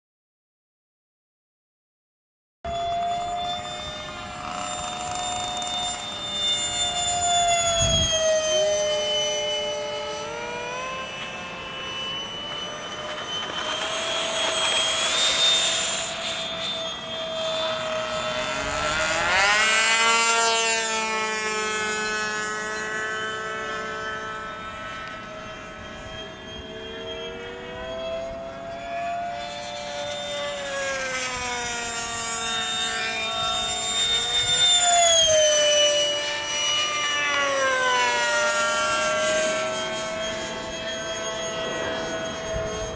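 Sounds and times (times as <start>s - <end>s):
model jet engine whine: 2.7s - 42.9s.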